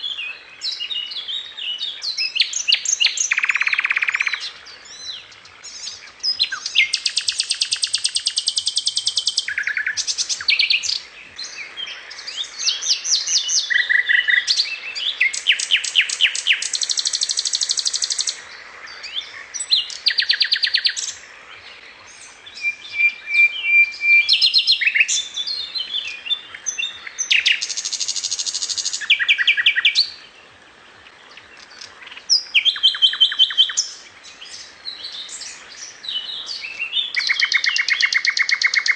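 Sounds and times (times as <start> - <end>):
songbird trilling: 0.0 - 21.2, 22.0 - 30.2, 31.2 - 38.9.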